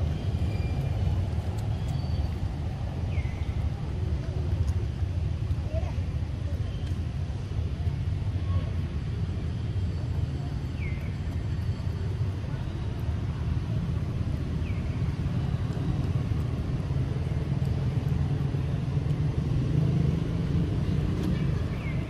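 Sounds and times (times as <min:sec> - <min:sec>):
low engine-like rumble: 0:00.0 - 0:22.0.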